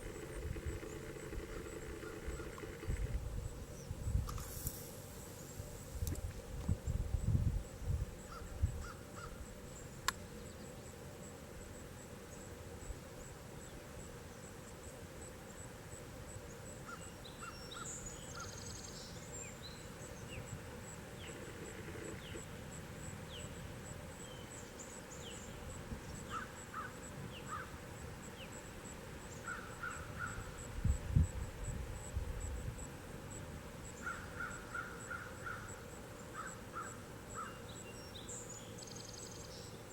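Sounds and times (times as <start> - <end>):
steady soft hiss: 0.0 - 39.9.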